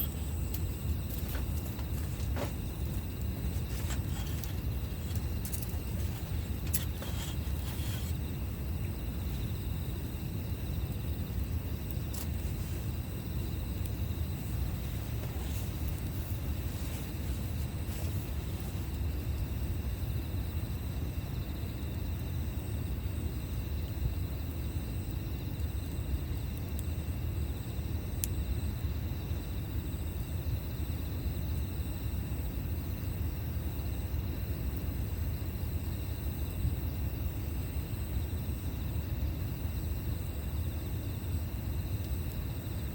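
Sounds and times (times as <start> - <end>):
burning wood crackling and popping: 0.0 - 42.9
campfire rumble: 0.0 - 42.9.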